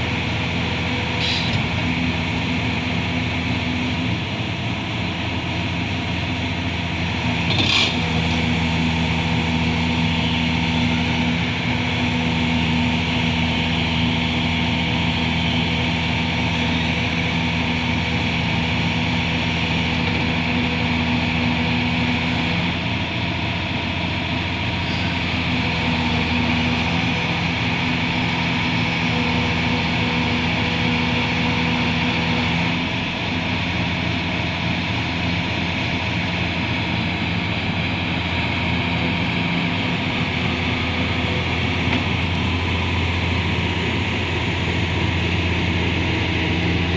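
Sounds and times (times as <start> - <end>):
excavator diesel engine humming: 0.0 - 46.9.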